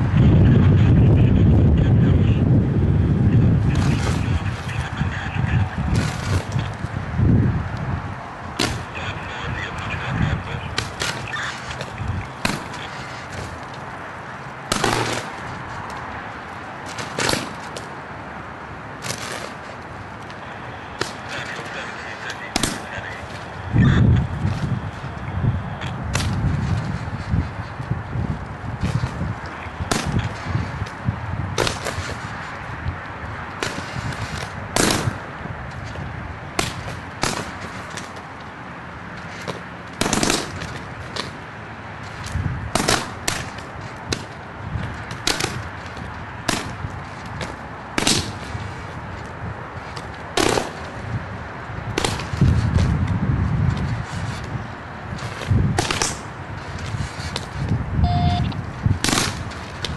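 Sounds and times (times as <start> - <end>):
power line arcing cracks: 3.4 - 57.8, 58.6 - 59.9.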